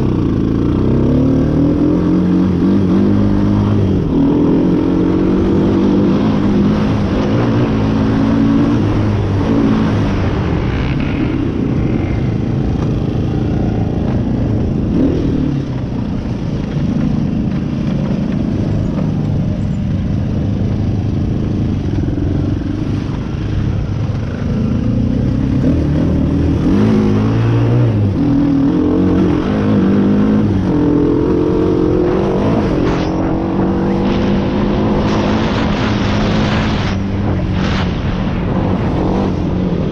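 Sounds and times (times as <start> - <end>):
off-road vehicle engine revving: 0.0 - 19.6, 21.6 - 39.9.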